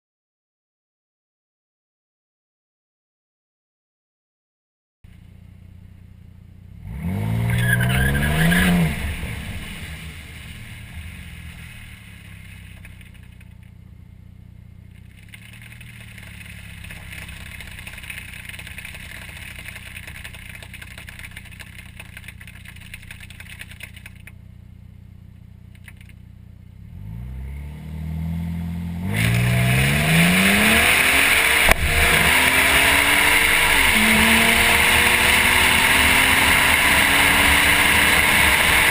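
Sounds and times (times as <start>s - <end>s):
car engine revving: 5.2s - 24.4s, 25.4s - 38.9s.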